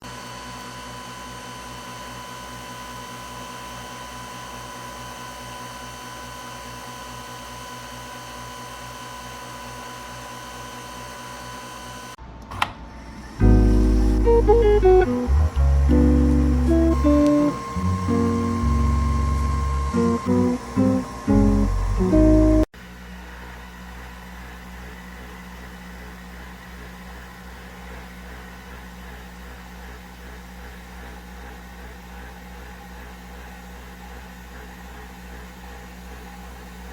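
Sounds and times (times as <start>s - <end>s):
mechanical hum with high tone: 0.0s - 36.9s.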